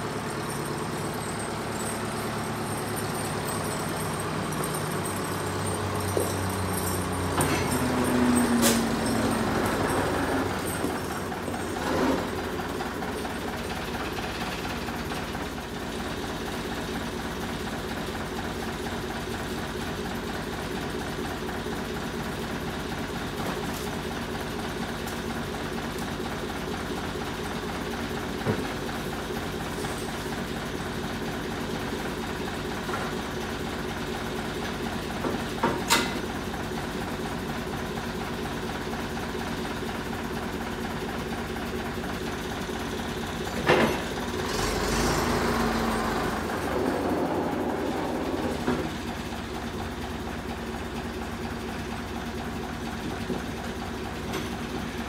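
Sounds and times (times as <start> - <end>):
front loader engine idling: 0.0 - 55.0.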